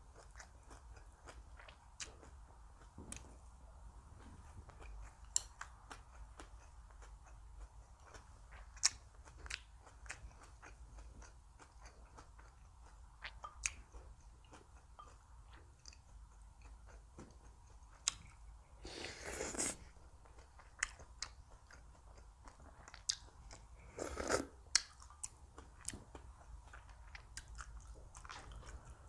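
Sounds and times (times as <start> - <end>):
person chewing crunchy food: 0.0 - 3.5, 4.3 - 29.0.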